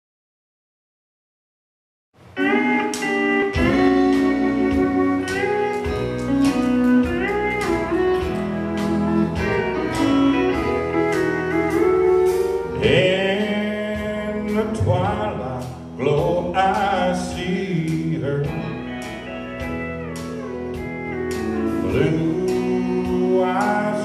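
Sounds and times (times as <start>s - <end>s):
country band playing: 2.2s - 24.0s
steel guitar sliding melody: 2.4s - 24.0s.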